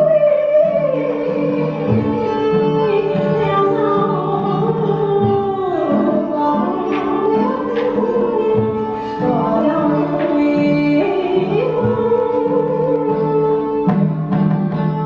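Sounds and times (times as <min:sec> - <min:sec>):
percussion strikes: 0:00.9 - 0:15.0.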